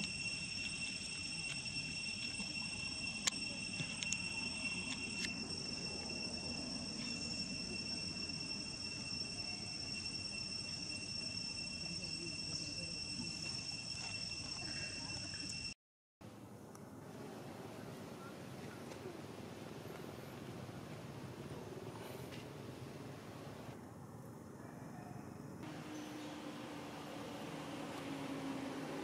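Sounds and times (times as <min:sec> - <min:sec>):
insects droning: 0:00.0 - 0:15.8, 0:19.1 - 0:29.0.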